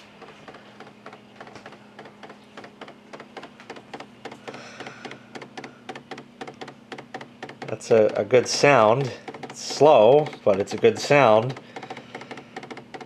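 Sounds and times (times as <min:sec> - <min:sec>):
fax machine low hum: 0:00.0 - 0:13.0
fax stepper motor clicking: 0:00.0 - 0:13.0.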